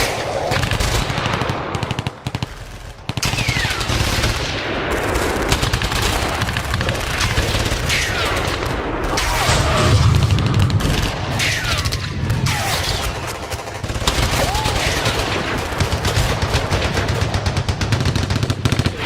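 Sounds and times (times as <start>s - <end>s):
low rumble of explosions: 0.0s - 19.0s
rapid automatic gunfire: 0.0s - 19.0s.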